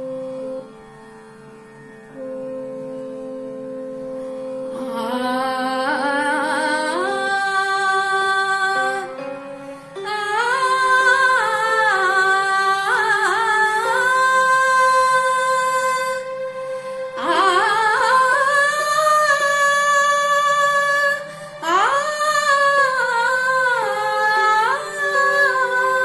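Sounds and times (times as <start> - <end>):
instrumental drone: 0.0 - 26.0
woman singing slow melody: 4.7 - 26.0.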